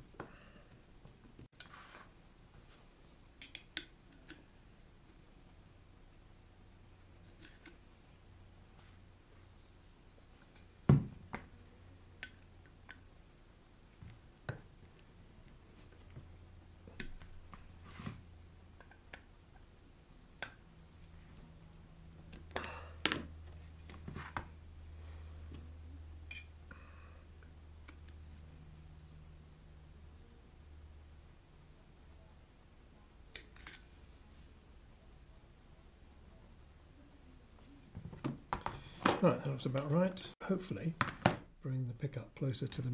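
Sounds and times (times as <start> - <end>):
faint low hum: 2.1 - 42.9.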